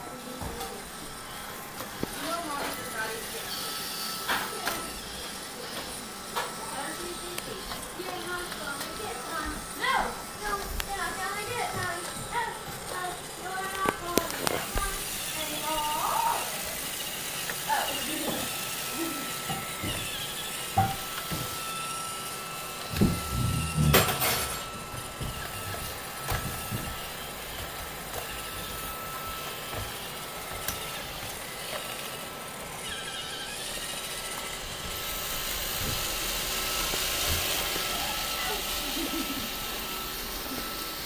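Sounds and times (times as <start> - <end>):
robot vacuum whirring: 0.0 - 41.0.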